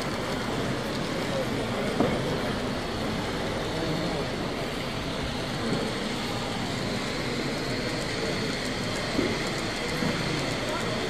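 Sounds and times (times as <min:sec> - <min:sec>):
busy exhibition hall noise: 0:00.0 - 0:11.0.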